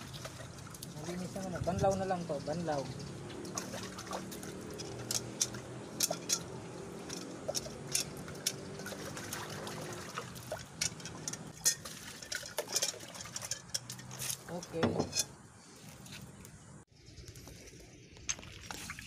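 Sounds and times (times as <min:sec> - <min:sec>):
water sloshing in metal pot: 0:00.0 - 0:15.4.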